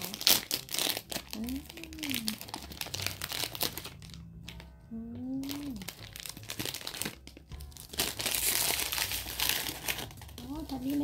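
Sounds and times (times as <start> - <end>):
packaging rustling and crackling: 0.0 - 4.7, 5.3 - 11.0.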